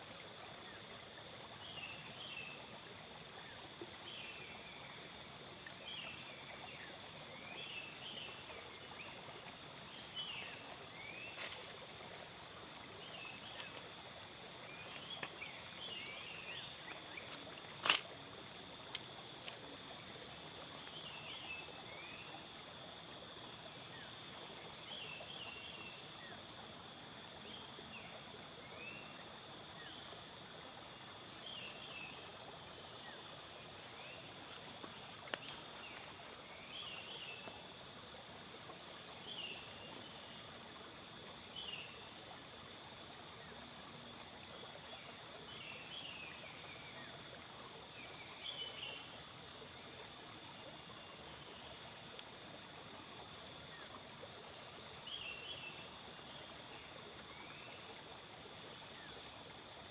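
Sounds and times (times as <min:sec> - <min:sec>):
insect chirps: 0:00.0 - 0:59.9
insects trilling: 0:00.0 - 0:59.9.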